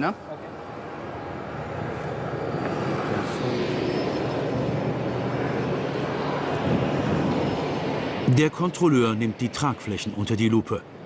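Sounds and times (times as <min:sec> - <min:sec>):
jet aircraft drone: 0:00.0 - 0:11.0.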